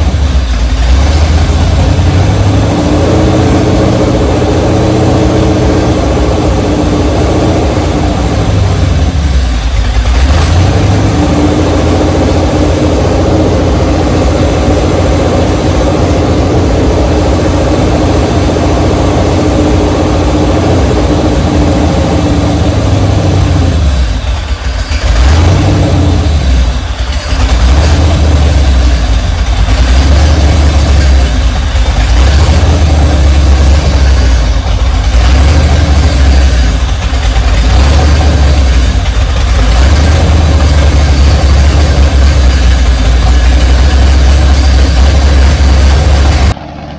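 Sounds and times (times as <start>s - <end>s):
engine running on a dyno: 0.0s - 46.9s.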